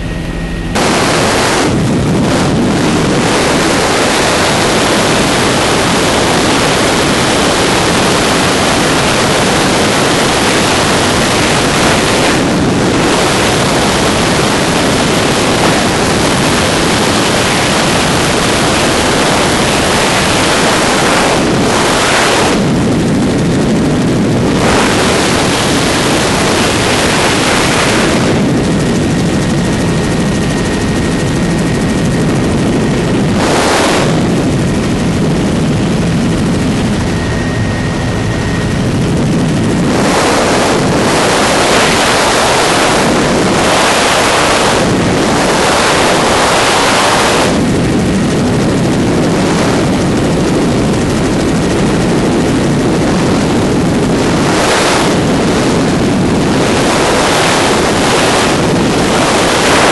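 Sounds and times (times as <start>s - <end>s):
helicopter engine and rotor noise: 0.0s - 59.9s.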